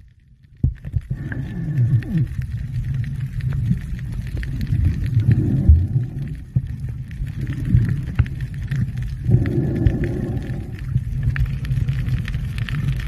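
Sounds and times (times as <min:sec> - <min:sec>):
muffled underwater rumble: 0:00.0 - 0:13.0.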